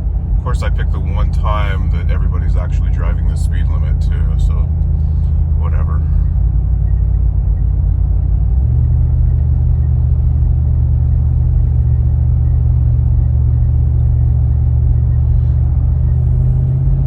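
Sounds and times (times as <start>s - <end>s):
car exhaust drone from inside cabin: 0.0s - 17.0s.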